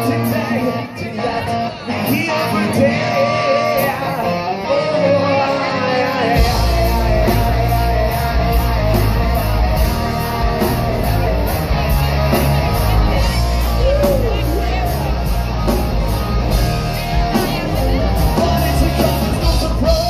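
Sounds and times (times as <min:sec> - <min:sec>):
man singing: 0:00.0 - 0:10.9, 0:12.7 - 0:20.0
hard rock band playing: 0:00.0 - 0:20.0.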